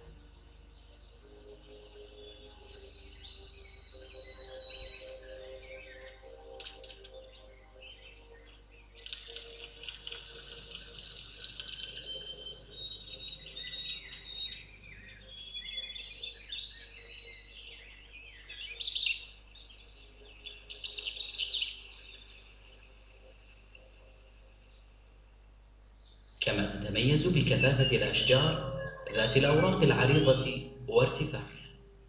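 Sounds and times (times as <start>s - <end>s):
birds chirping and calling: 1.7s - 22.3s, 26.4s - 32.0s.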